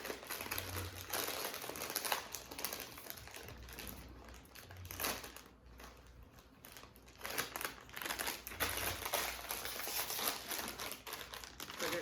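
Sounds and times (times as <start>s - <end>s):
food packaging crinkling: 0.0s - 12.0s.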